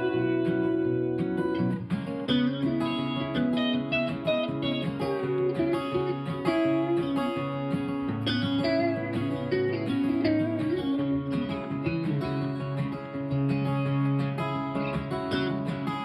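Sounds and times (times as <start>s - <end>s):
folk-country guitars playing: 0.0s - 16.0s
plucked notes: 0.0s - 16.0s.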